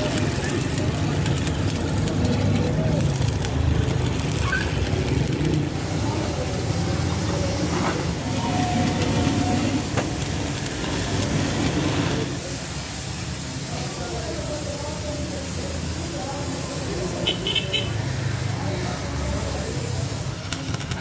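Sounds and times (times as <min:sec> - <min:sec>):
welding arc crackling: 0:00.0 - 0:21.0.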